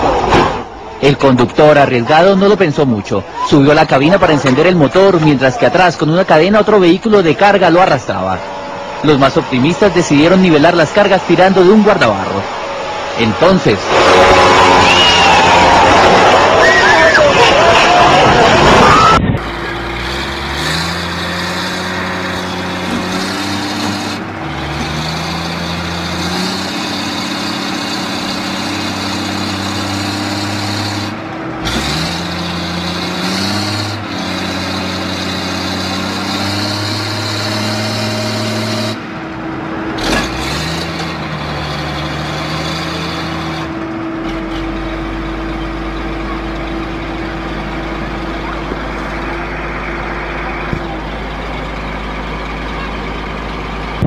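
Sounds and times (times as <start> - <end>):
heavy diesel engines revving: 0.0 - 54.0.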